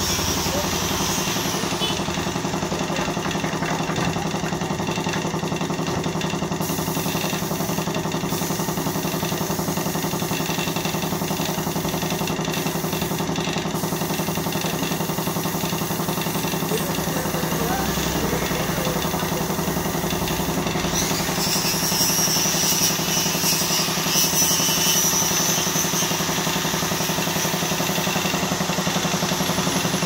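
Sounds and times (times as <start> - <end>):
compressor hiss: 0.0 - 2.5, 6.5 - 30.0
air compressor running: 0.0 - 30.0.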